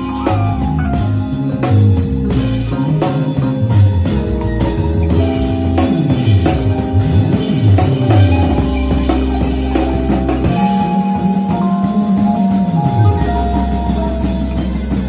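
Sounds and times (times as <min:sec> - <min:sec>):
drum kit: 0:00.0 - 0:15.0
electric guitar: 0:00.0 - 0:15.0
keyboard: 0:00.0 - 0:15.0
low bass line gliding: 0:00.0 - 0:15.0.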